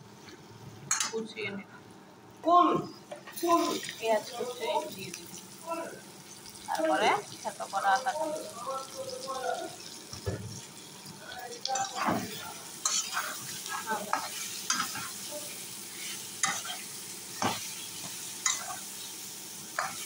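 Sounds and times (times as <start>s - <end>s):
vegetables sizzling in hot oil: 3.3s - 20.0s.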